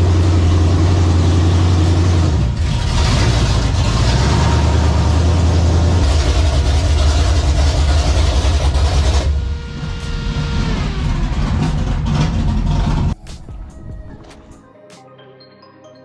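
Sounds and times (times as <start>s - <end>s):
vehicle engine rumbling: 0.0s - 14.6s.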